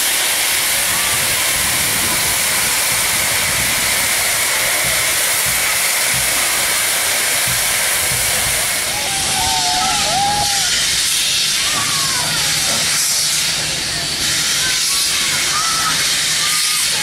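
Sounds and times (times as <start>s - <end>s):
steam locomotive blowing off steam: 0.0s - 17.0s.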